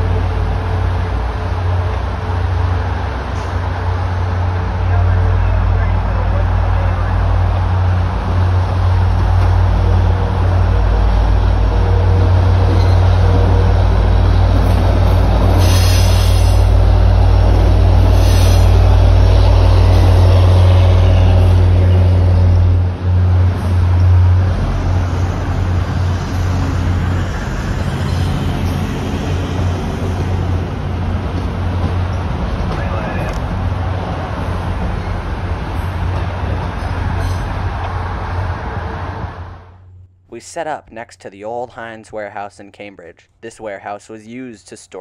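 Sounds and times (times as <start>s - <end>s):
passenger coaches rolling past: 0.0s - 39.8s
diesel locomotive engine: 0.0s - 40.1s
road traffic: 0.0s - 40.2s.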